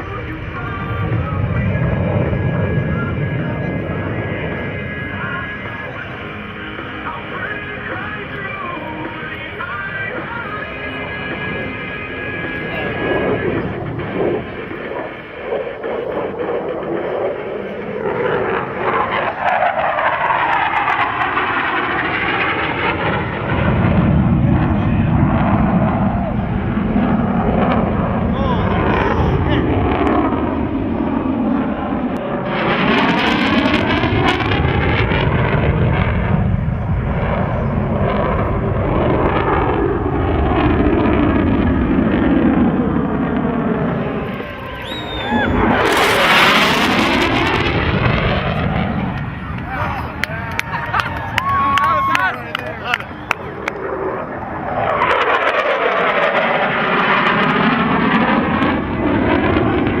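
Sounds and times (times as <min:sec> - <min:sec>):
jet aircraft flying past: 0:00.0 - 1:00.0.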